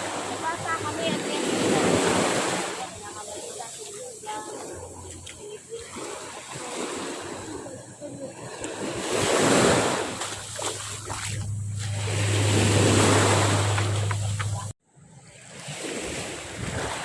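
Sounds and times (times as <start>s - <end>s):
sea waves breaking on shore: 0.0s - 14.8s, 15.4s - 17.0s.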